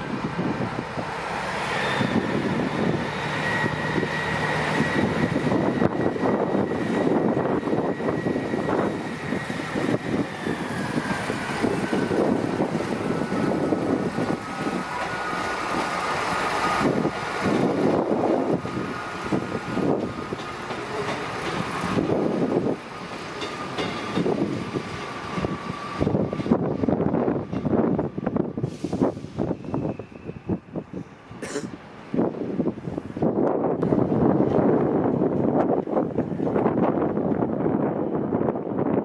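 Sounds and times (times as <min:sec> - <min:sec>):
diesel train engine whining: 0:00.0 - 0:39.0.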